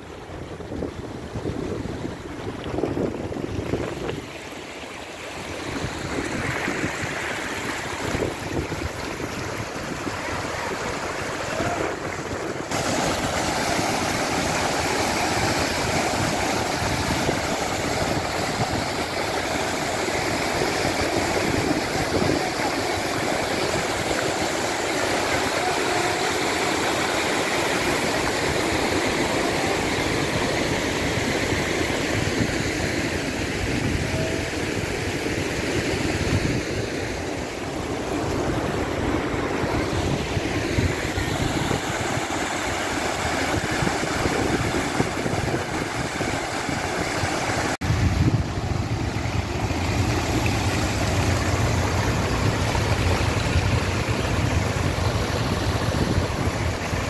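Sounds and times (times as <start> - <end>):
wind on microphone: 0.0 - 4.4, 5.4 - 24.9, 29.8 - 57.0
pipes pouring water into channel: 0.0 - 33.9, 34.7 - 57.0
water running over a bank: 0.0 - 57.0.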